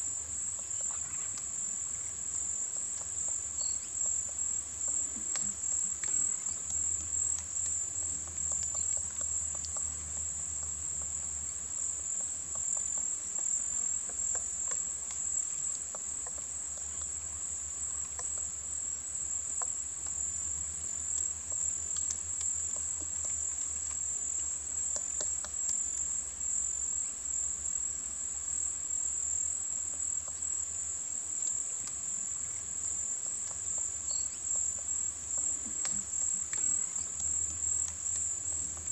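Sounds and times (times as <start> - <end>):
insects droning: 0.0 - 38.9
faint ticks and taps: 0.5 - 28.0, 29.3 - 38.9.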